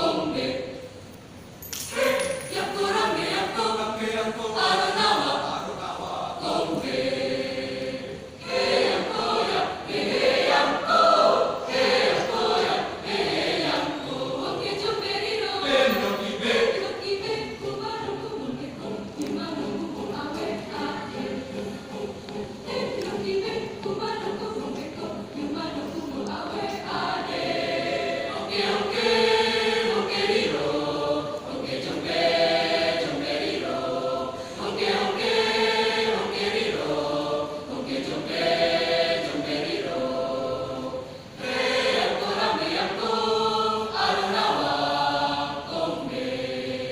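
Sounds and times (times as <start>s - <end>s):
choir singing: 0.0s - 1.1s, 1.9s - 46.9s.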